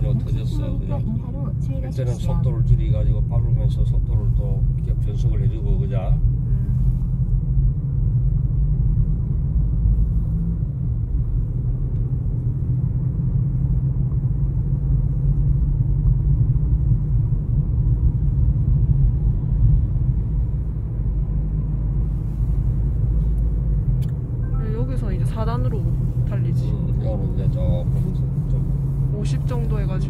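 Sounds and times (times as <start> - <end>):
car engine and road drone: 0.0 - 30.0.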